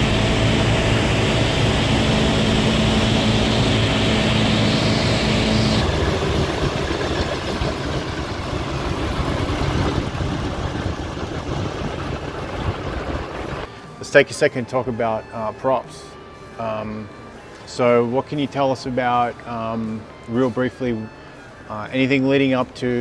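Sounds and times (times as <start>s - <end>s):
radial piston engines droning: 0.0s - 23.0s.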